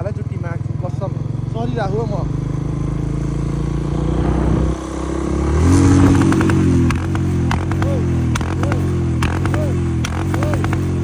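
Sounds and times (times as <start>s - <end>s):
exhaust pops and crackles: 0.0s - 11.0s
motorcycle engine revving: 0.0s - 11.0s.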